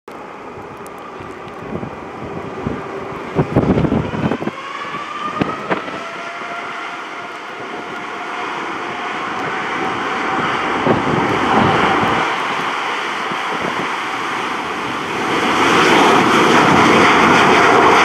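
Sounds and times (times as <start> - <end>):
jet engines at takeoff power: 0.1 - 18.0
wind buffeting microphone: 0.1 - 18.0.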